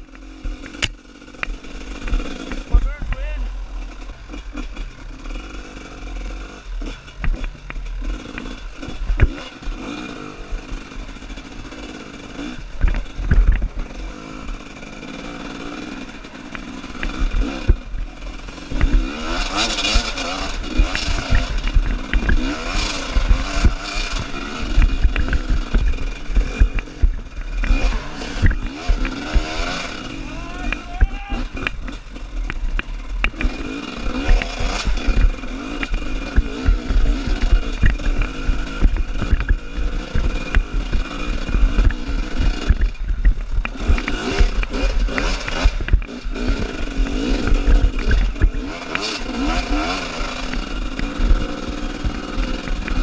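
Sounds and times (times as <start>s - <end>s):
sharp thumps: 0.0s - 9.8s, 16.1s - 53.0s
dirt bike engine revving: 0.0s - 53.0s.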